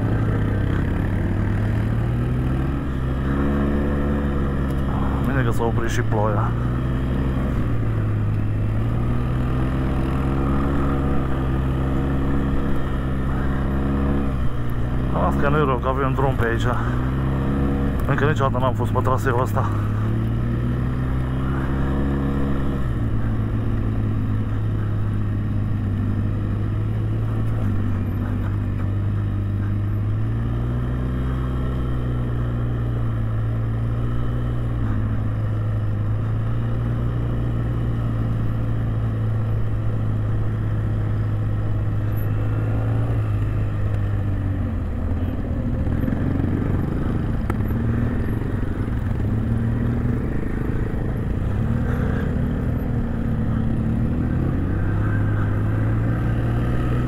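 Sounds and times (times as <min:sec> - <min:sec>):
atv engine droning: 0:00.0 - 0:57.0.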